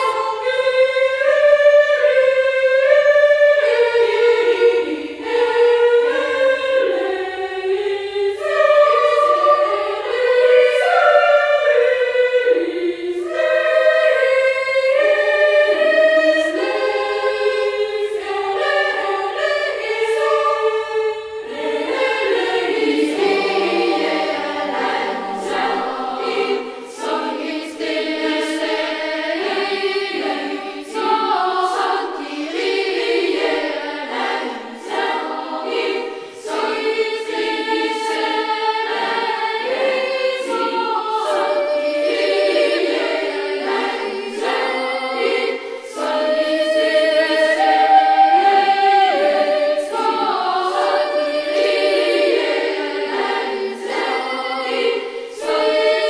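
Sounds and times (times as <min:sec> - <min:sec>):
choir singing held chords: 0:00.0 - 0:56.0.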